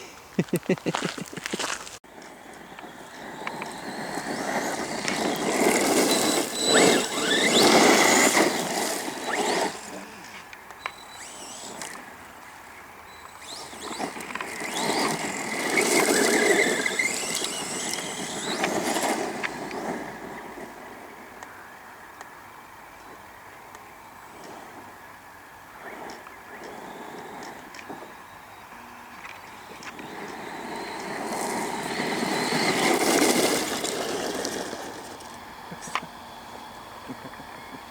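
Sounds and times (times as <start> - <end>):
electric motor whining: 2.1 - 20.9, 25.8 - 37.9.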